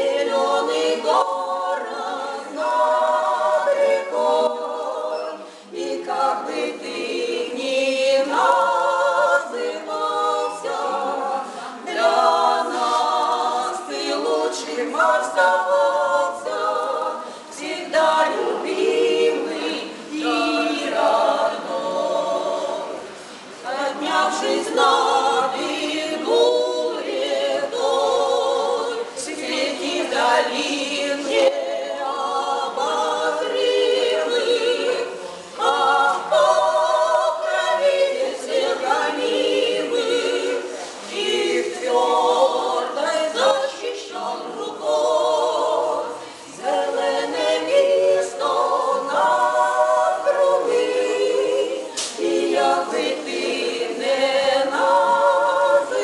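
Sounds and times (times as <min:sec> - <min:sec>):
women singing a cappella: 0:00.0 - 0:56.0.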